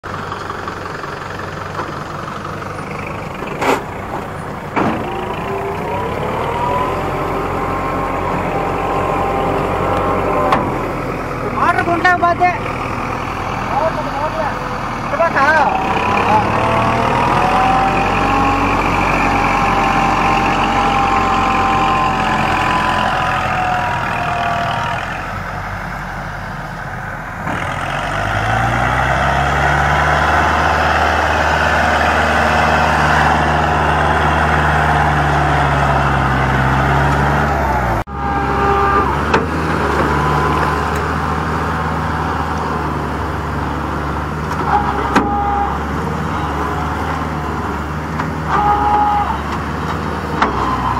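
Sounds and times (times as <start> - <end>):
tractor diesel engine labouring: 0.0 - 50.9.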